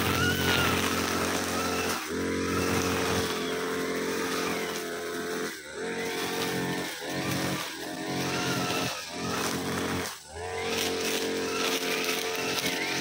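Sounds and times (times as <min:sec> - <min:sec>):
brushcutter engine revving: 0:00.0 - 0:13.0.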